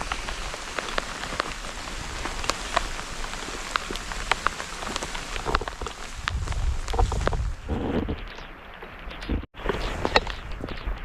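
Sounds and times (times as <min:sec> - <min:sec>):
raindrops ticking close by: 0:00.0 - 0:11.0
steady rain hiss: 0:00.0 - 0:11.0.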